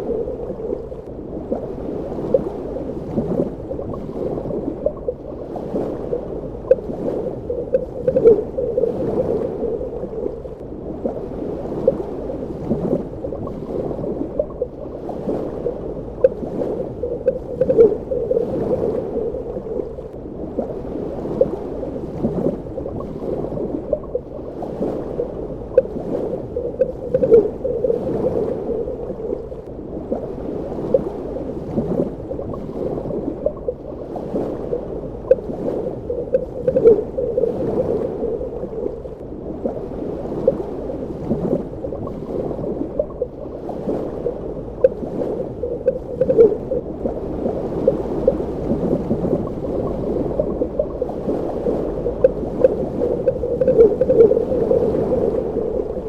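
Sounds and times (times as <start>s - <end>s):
bubbling gurgles: 0.0s - 30.3s, 30.9s - 39.8s, 41.0s - 56.0s
muffled underwater water rush: 0.0s - 56.0s.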